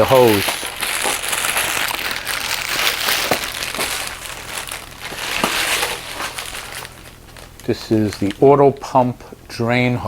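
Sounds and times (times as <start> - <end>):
packaging crinkling and rustling: 0.0 - 8.6.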